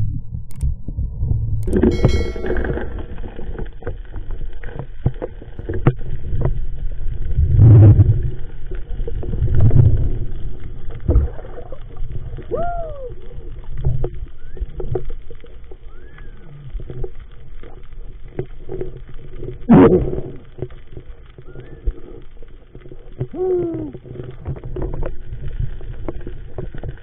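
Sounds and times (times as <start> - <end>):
muffled underwater rumble: 0.0 - 27.0.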